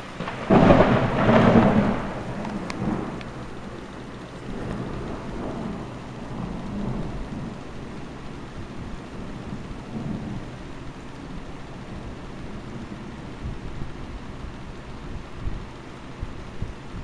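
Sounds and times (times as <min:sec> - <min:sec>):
heavy rain falling: 0:00.0 - 0:17.0
rolling thunder: 0:00.0 - 0:17.0.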